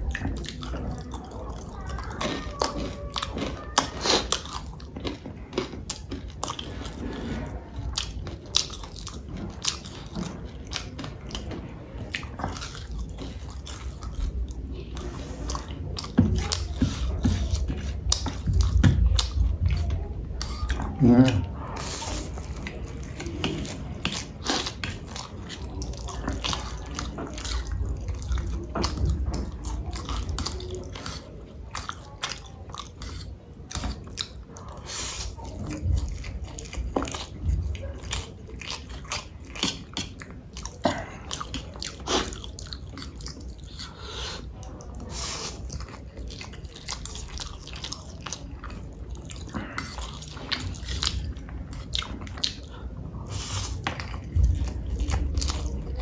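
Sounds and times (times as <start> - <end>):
person chewing and biting: 0.0 - 56.0.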